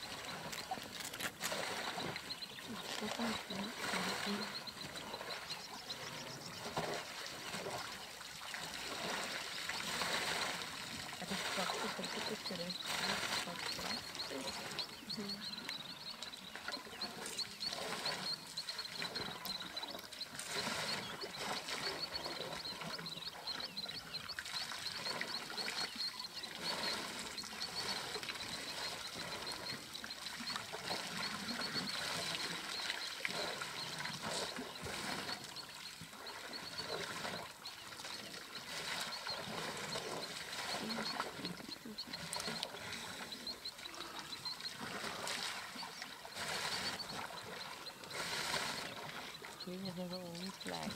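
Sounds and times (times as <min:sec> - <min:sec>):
water splashing and trickling: 0:00.0 - 0:50.9.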